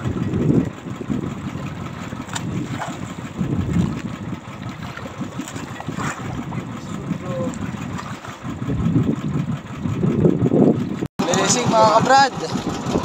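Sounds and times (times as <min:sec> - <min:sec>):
boat running gear rumble: 0:00.0 - 0:13.0
water: 0:00.0 - 0:13.0
wind at sea: 0:00.0 - 0:13.0.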